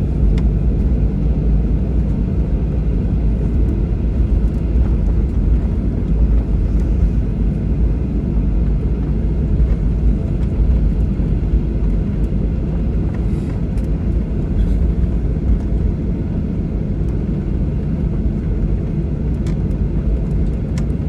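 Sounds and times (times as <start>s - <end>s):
aircraft engines: 0.0s - 21.0s
airliner cabin rumble: 0.0s - 21.0s.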